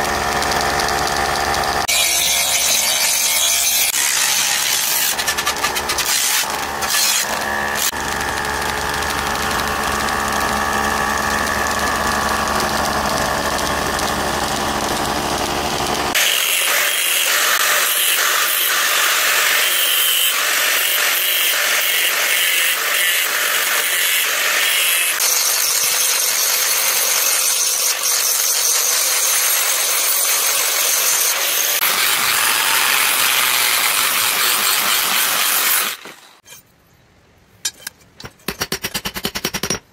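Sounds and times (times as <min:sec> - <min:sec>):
power tool motor running: 0:00.0 - 0:36.5.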